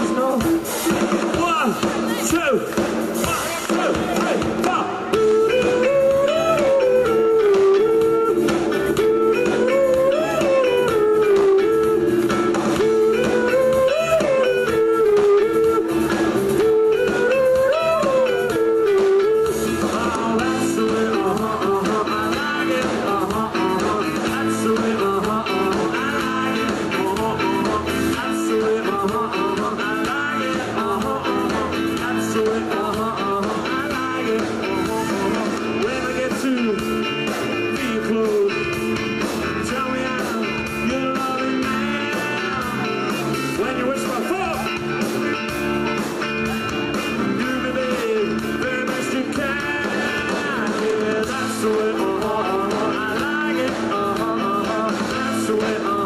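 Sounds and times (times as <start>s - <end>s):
band music: 0.0s - 56.0s
steady drum beat: 0.0s - 56.0s
guitar playing sliding notes: 5.0s - 56.0s.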